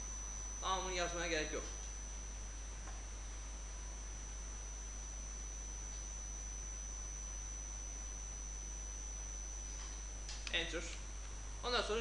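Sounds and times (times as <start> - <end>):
high-pitched whine: 0.0 - 12.0
low electrical hum: 0.0 - 12.0.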